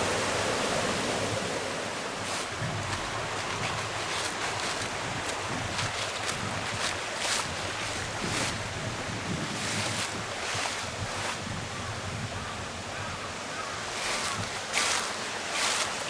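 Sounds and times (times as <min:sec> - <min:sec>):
river water rushing: 0:00.0 - 0:11.5, 0:13.3 - 0:16.0.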